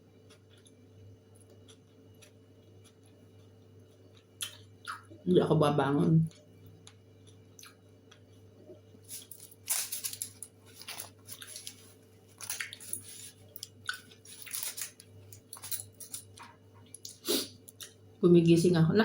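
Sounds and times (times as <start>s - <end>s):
person chewing crunchy food: 0.0s - 5.1s, 6.3s - 18.0s.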